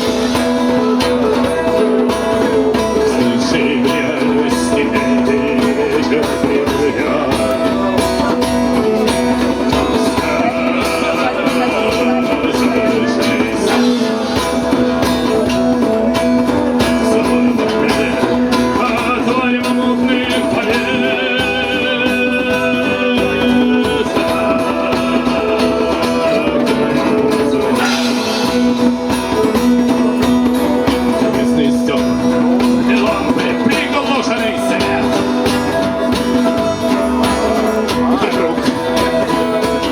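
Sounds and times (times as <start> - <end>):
band playing a guitar-led song: 0.0 - 39.9.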